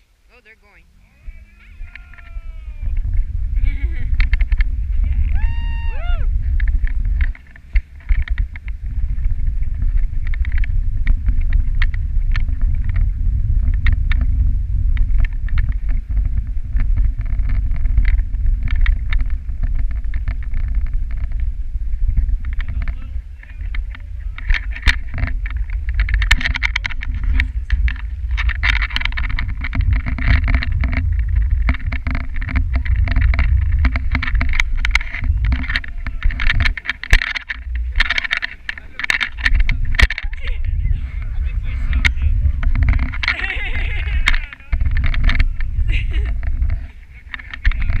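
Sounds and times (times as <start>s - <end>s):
sled runners rumbling on snow: 0.0s - 48.0s
wind on microphone: 0.0s - 48.0s
sled knocks and rattles: 0.4s - 48.0s.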